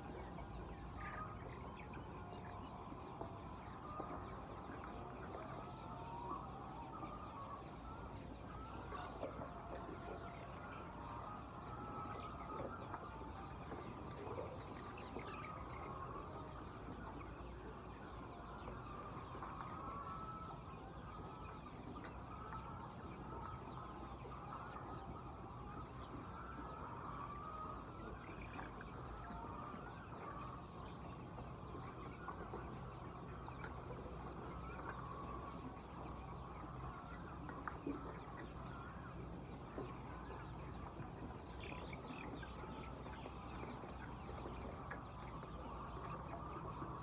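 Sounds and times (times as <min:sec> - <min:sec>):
hens clucking and calling: 0:00.0 - 0:47.0.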